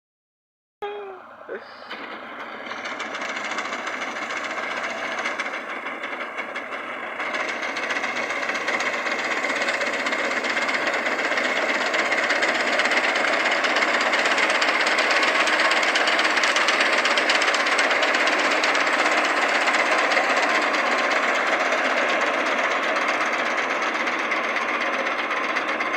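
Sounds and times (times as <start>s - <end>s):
tractor diesel engine clattering: 1.0s - 25.9s.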